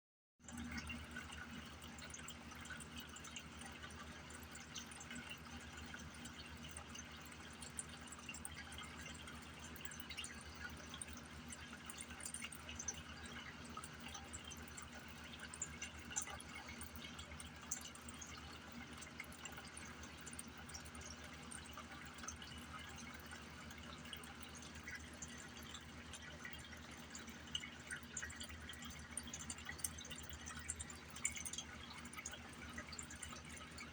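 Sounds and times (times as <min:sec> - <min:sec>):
low steady hum: 0:00.4 - 0:33.9
water trickling and dripping: 0:00.4 - 0:33.9.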